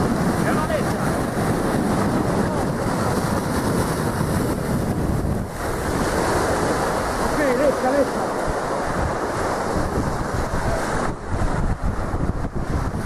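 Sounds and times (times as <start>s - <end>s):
waves washing up a beach: 0.0s - 13.0s
wind buffeting microphone: 0.0s - 13.0s.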